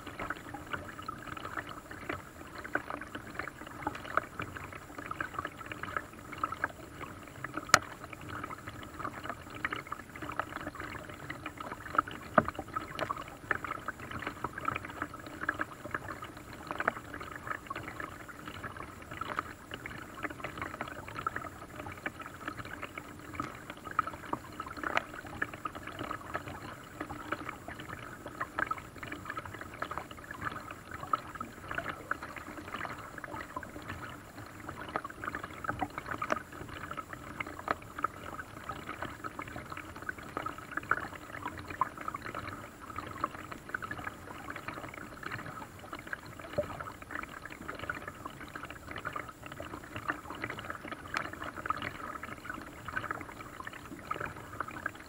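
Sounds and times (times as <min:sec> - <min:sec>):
water lapping against hull: 0:00.0 - 0:55.0.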